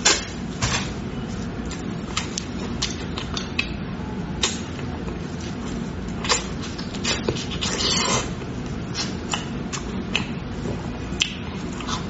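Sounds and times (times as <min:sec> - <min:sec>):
steady low hum: 0:00.0 - 0:12.0
person chewing and smacking lips: 0:01.3 - 0:03.8, 0:04.4 - 0:12.0.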